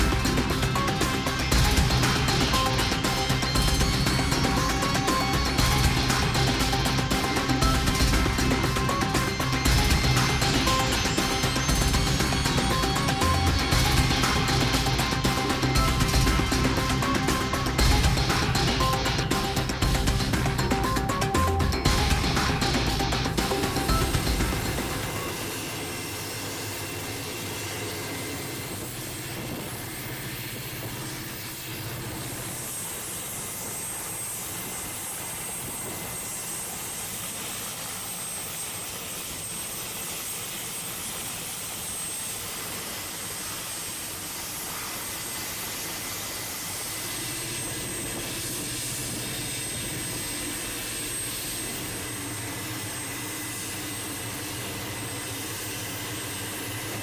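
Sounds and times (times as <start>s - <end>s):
helicopter engine and rotors: 0.0s - 57.0s
high-pitched whine: 0.0s - 57.0s.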